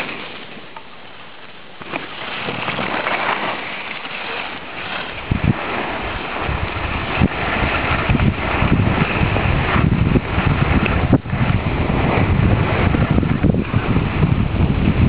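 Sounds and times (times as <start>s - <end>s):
skis sliding over snow: 0.0s - 15.0s
wind buffeting microphone: 1.8s - 15.0s.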